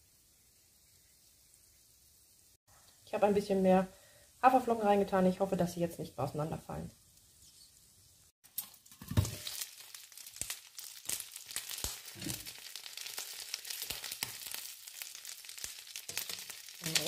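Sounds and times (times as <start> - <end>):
patties sizzling in oil: 0.0 - 17.0.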